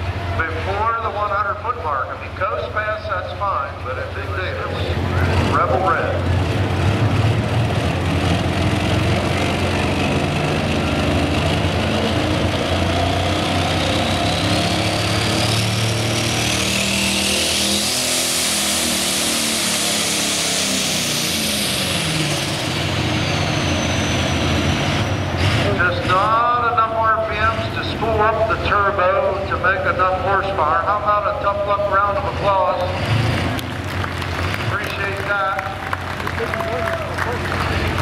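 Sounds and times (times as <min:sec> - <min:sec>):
tractor diesel engine running hard: 0:00.0 - 0:38.0.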